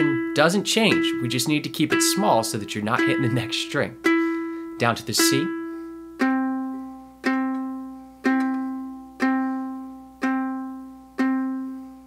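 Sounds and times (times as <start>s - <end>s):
ukulele string plucked: 0.0s - 11.8s.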